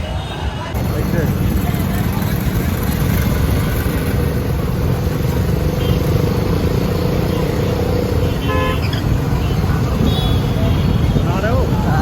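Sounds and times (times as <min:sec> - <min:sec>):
motorcycle engine rumbling: 0:00.8 - 0:12.0.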